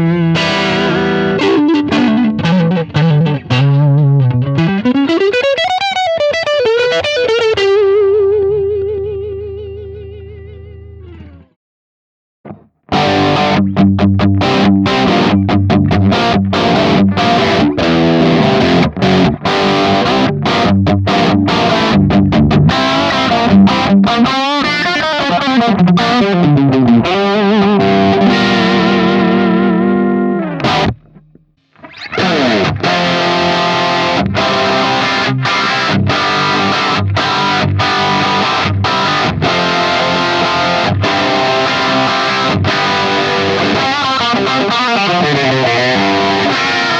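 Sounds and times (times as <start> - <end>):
distorted electric guitar riff: 0.0 - 11.5, 12.5 - 46.9.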